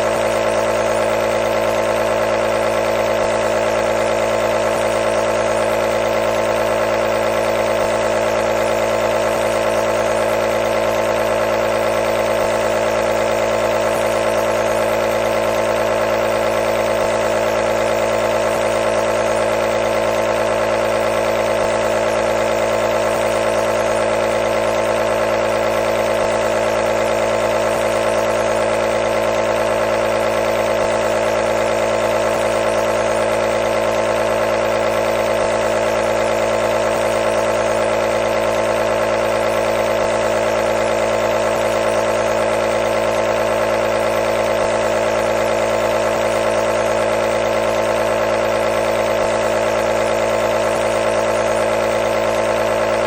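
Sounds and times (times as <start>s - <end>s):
nebulizer compressor humming: 0.0s - 53.0s.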